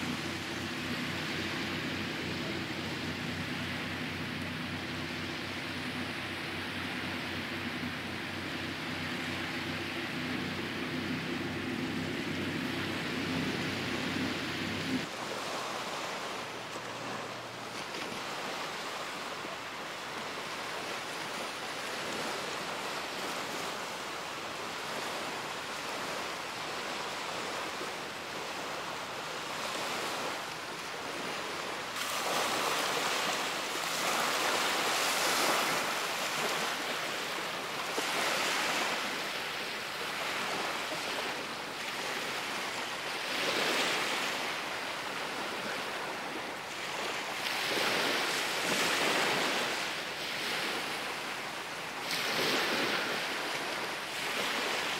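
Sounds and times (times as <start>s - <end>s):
small waves on sandy beach: 0.0s - 54.9s.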